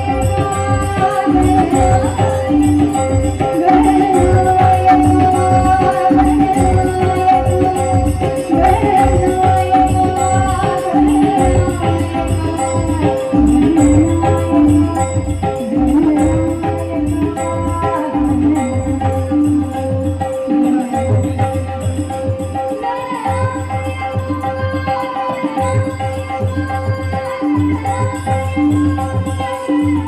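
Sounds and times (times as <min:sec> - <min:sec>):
hand drum beat: 0:00.0 - 0:30.0
woman singing into microphone: 0:00.0 - 0:30.0.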